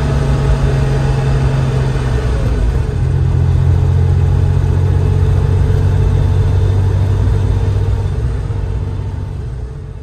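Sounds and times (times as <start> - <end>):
car engine drone: 0.0 - 10.0
road noise: 0.0 - 10.0.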